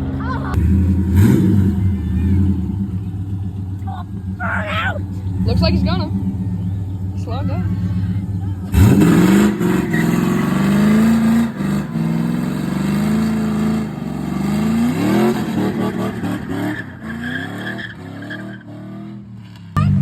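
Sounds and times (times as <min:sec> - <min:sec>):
car engine revving and accelerating: 0:00.0 - 0:20.0.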